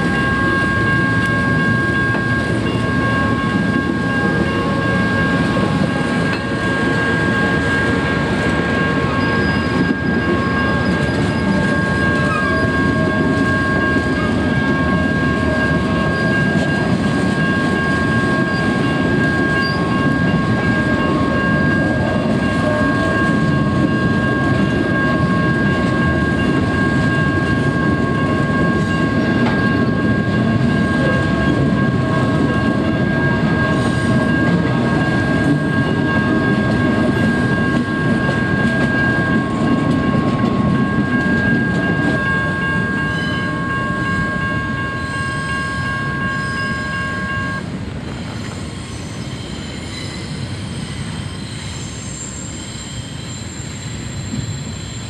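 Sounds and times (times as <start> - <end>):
steady high tone: 0.0 - 47.7
train wheels rumbling on rails: 0.0 - 55.0.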